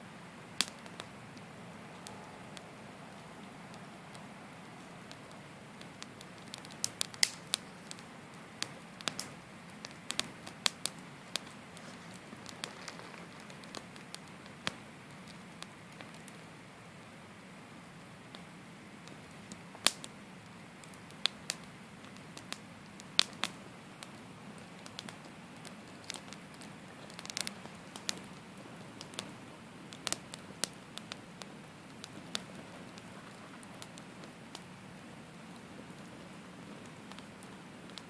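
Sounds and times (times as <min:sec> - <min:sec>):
campfire crackling and popping: 0:00.0 - 0:38.0
low steady fire hiss: 0:00.0 - 0:38.0.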